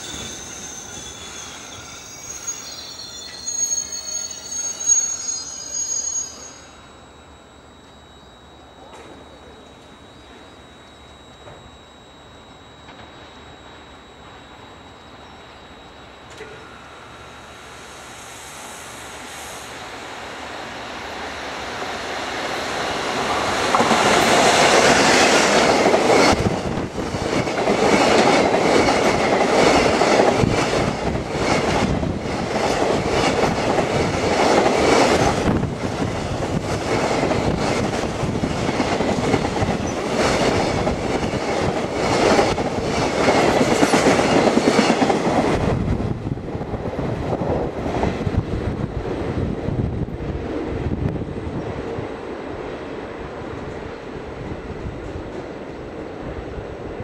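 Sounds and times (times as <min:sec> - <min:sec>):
electric locomotive passing: 0:00.0 - 0:57.0.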